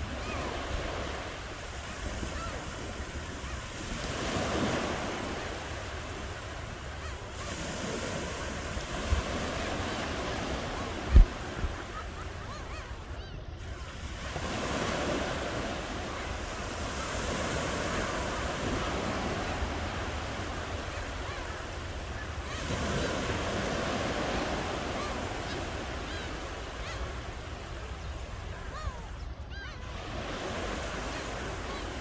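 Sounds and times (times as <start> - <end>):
ocean waves washing ashore: 0.0 - 32.0.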